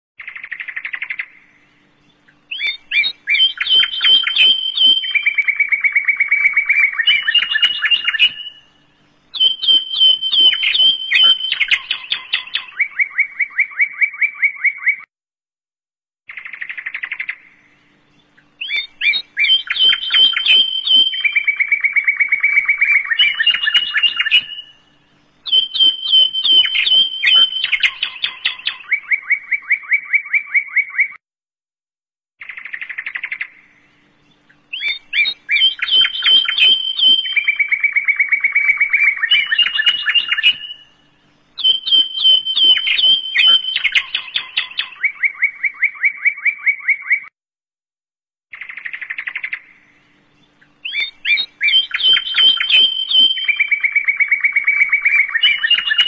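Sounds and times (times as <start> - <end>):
bird song of fast trills: 0.2 - 15.1, 16.3 - 31.2, 32.4 - 47.3, 48.5 - 56.0.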